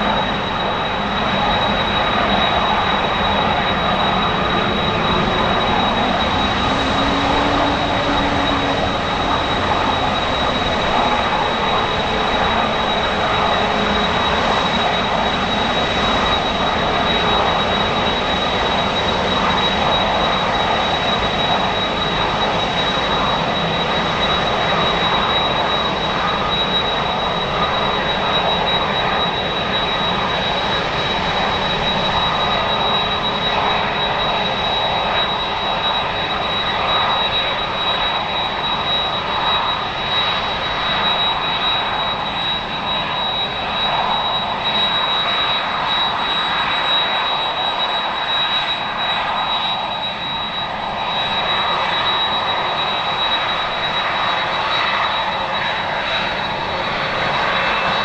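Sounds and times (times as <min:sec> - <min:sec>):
high engine whine: 0:00.0 - 0:58.0
jet engines rushing: 0:00.0 - 0:58.0.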